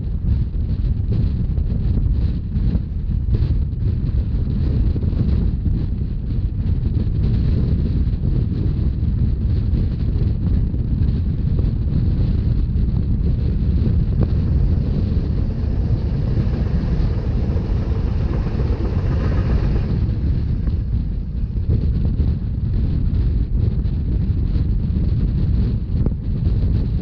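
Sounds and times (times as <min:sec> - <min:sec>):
train rumbling on track: 0:00.0 - 0:27.0
wind buffeting microphone: 0:00.0 - 0:27.0.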